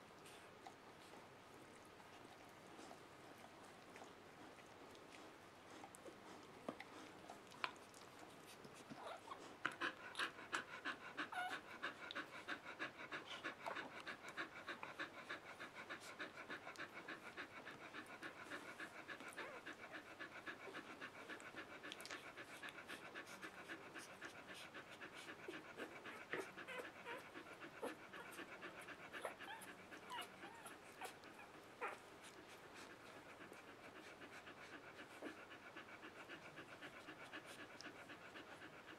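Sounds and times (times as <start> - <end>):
dog panting quickly: 2.1 - 38.9.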